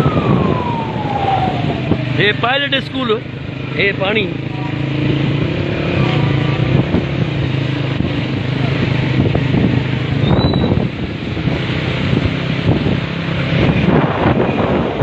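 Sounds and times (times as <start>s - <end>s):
wind buffeting microphone: 0.0s - 3.7s, 4.3s - 15.0s
vehicle engine running: 1.7s - 15.0s.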